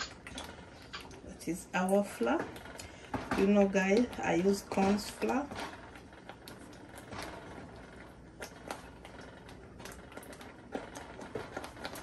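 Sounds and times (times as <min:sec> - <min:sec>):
porridge boiling in a pot: 0:00.0 - 0:12.0
wooden spoon stirring porridge: 0:00.0 - 0:12.0.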